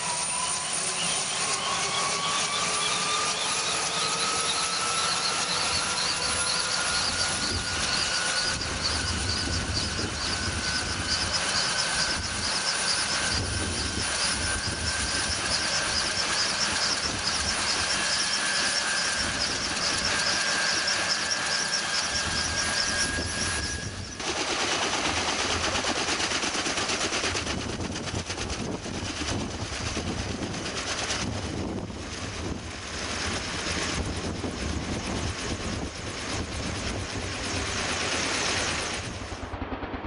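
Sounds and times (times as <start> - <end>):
helicopter rotor blades beating: 0.0 - 40.0
helicopter turbine whine: 0.0 - 40.0.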